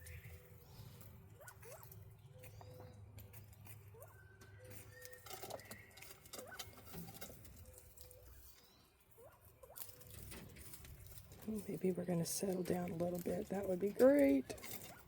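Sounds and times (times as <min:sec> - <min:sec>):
quail scratching and pecking: 0:00.0 - 0:15.0.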